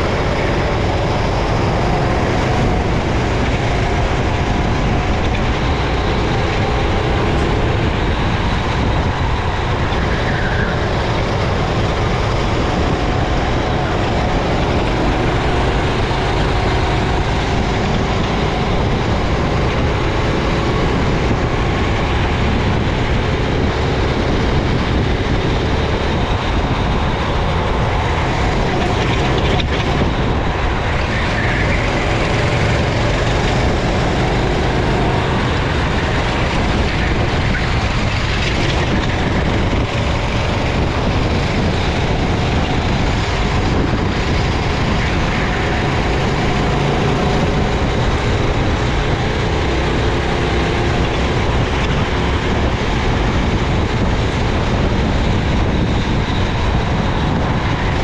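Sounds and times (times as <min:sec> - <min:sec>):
kart engine running hard: 0:00.0 - 0:58.0
wind and track noise: 0:00.0 - 0:58.0.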